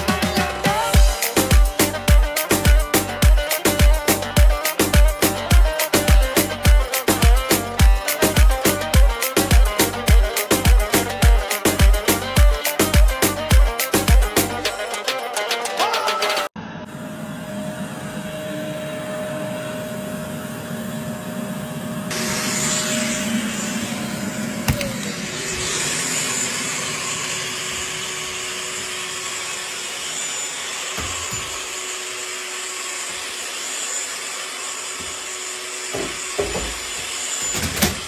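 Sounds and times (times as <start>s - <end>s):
vacuum cleaner running: 0.7s - 14.7s, 16.6s - 38.0s.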